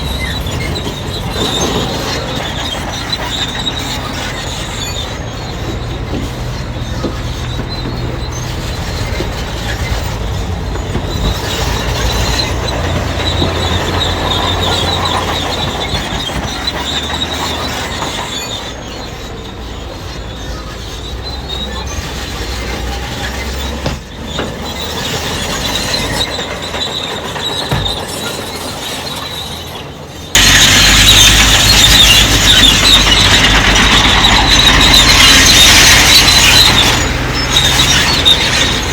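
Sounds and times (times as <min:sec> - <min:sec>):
bulldozer diesel engine rumbling: 0:00.0 - 0:38.9
steel tracks squealing and clanking: 0:00.0 - 0:38.9.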